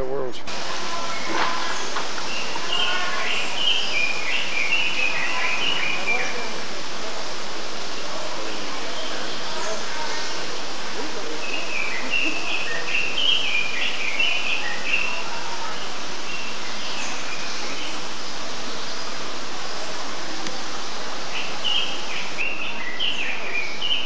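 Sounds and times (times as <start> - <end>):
birds chirping: 0.0 - 24.0
steady hiss: 0.0 - 24.0.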